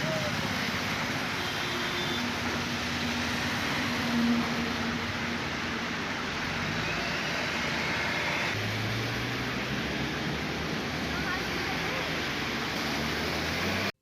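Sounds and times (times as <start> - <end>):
heavy rain hiss: 0.0 - 13.9
passing vehicle engines: 0.0 - 14.0
tyres on wet road: 0.0 - 14.0.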